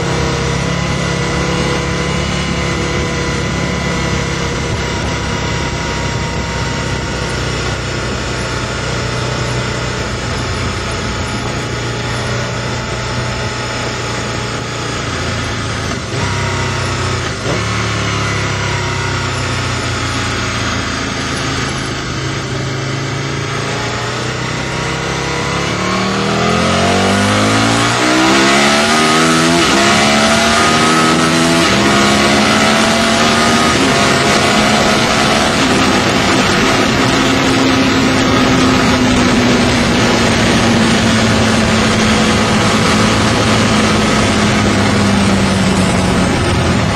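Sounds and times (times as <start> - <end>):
motorcycle engine accelerating: 0.0 - 46.9
wind noise: 0.0 - 46.9.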